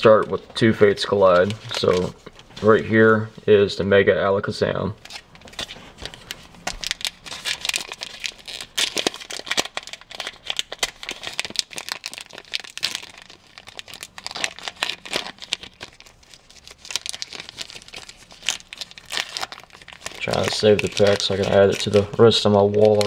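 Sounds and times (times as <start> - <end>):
foil wrapper crinkling and tearing: 0.0 - 2.8, 5.0 - 23.0.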